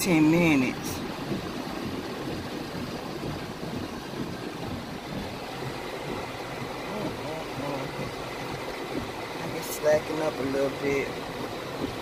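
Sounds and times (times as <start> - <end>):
heavy rain on a car: 0.0 - 12.0.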